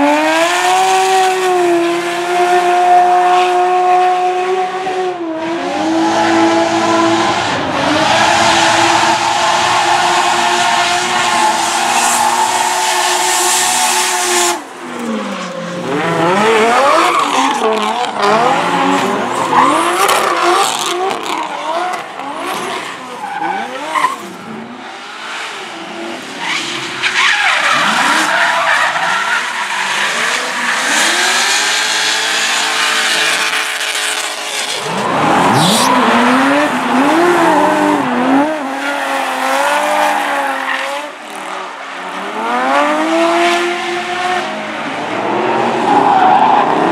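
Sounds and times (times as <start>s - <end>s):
car engines revving hard: 0.0s - 46.9s.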